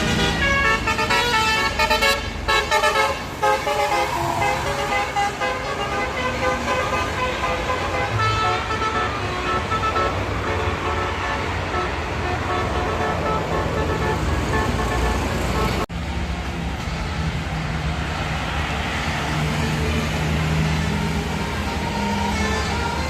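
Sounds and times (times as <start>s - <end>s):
melodic bus horn: 0.0s - 15.9s, 19.5s - 23.0s
passing traffic rumble: 0.0s - 23.0s.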